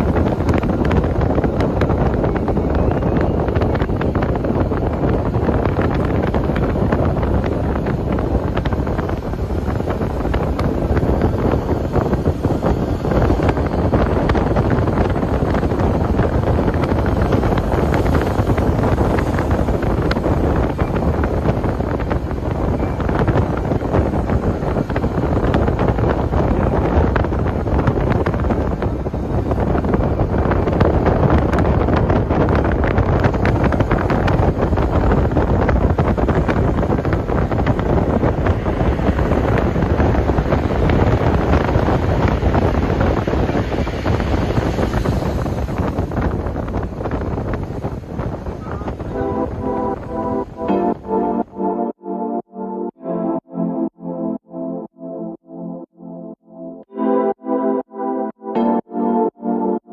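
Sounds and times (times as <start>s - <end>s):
heavy surf on shore: 0.0s - 51.3s
strong wind buffeting microphone: 0.0s - 52.0s.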